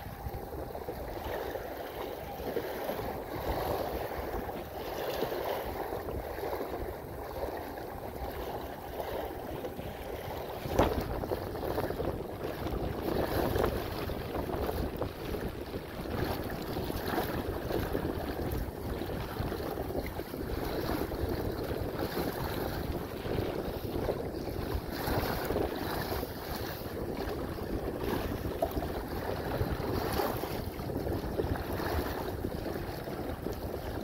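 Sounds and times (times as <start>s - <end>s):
water slapping kayak bow: 0.0s - 34.0s
wind buffeting microphone: 0.0s - 34.0s.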